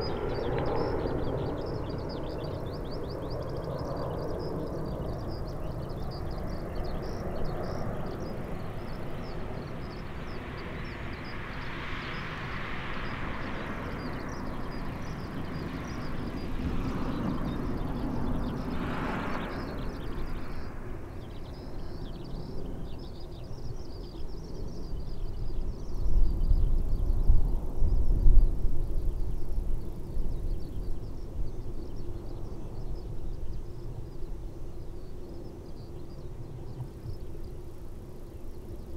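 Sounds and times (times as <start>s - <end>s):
distant jet airliner rumble: 0.0s - 38.9s.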